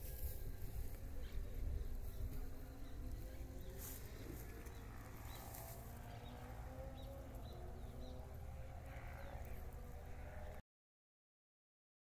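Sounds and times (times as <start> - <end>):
steady low rumble: 0.0 - 10.6
bird chirps: 0.1 - 9.8.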